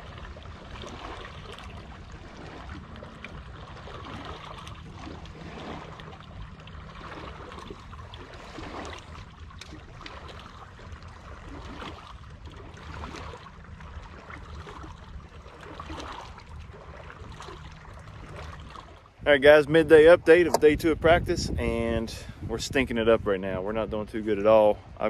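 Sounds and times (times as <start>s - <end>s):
water lapping against a hull: 0.0s - 25.0s.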